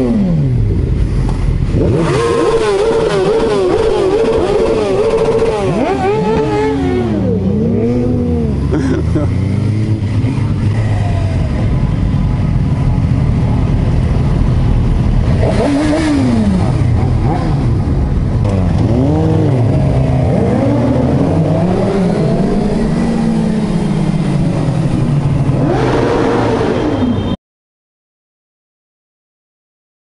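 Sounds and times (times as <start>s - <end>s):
motorcycles revving: 0.0s - 27.4s.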